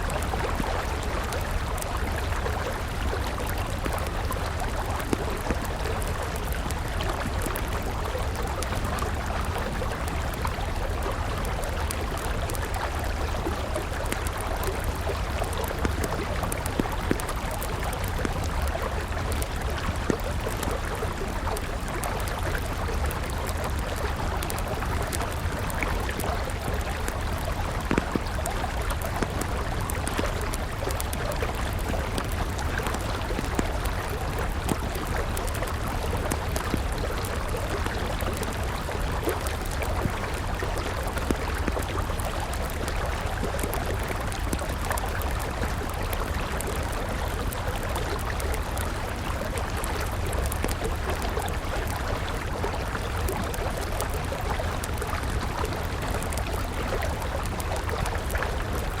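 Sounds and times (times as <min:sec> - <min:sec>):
campfire crackling: 0:00.0 - 0:59.0
river water flowing: 0:00.0 - 0:59.0.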